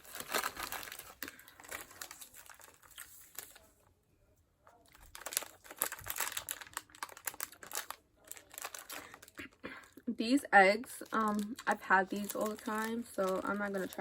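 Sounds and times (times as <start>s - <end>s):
plastic wrappers crinkling: 0.0s - 3.9s, 4.7s - 14.0s.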